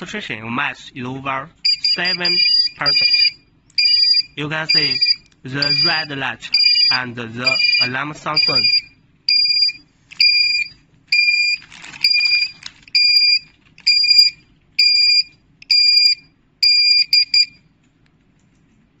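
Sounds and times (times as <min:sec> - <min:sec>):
gas detector alarm beeping: 0:01.6 - 0:17.7.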